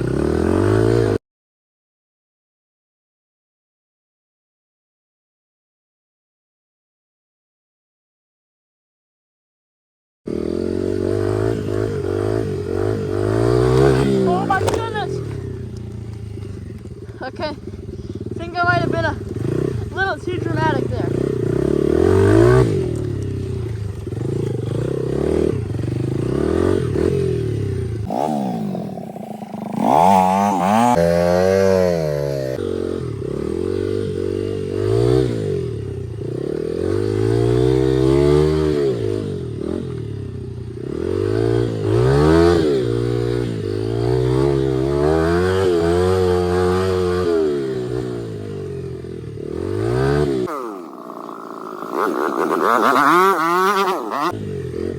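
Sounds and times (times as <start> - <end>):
dirt bike engine revving: 0.0 - 1.2, 10.3 - 54.9.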